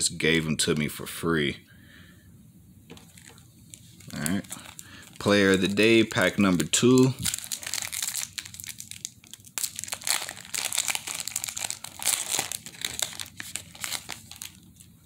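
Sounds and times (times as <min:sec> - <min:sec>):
foil wrapper crinkling: 0:02.9 - 0:15.0.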